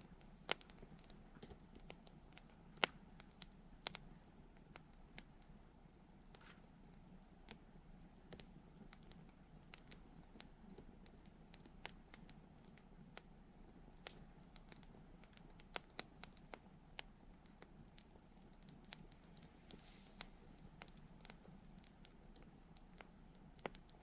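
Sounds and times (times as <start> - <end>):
faint steady hush: 0.0 - 24.0
wood fire crackling: 0.0 - 24.0.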